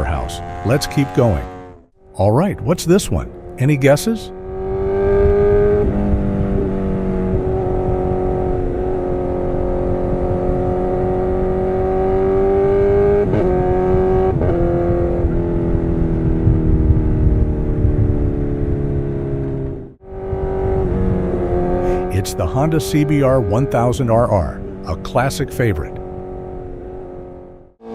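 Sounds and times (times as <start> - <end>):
motorcycle engine at high revs: 0.0 - 2.2, 3.2 - 27.9.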